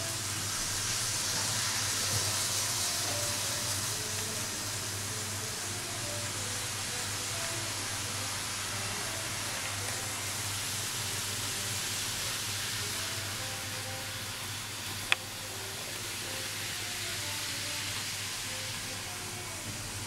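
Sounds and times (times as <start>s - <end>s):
model trains running: 0.0s - 20.0s.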